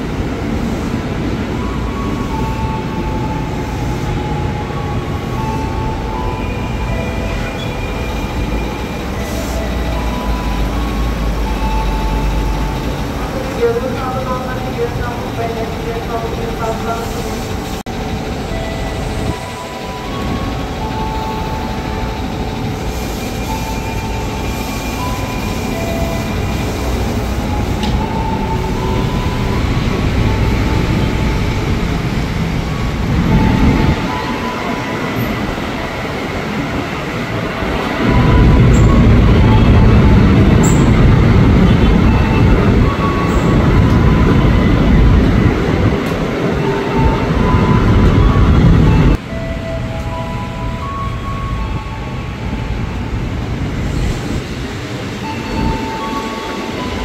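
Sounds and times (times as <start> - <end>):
electric train rumbling: 0.0 - 57.0.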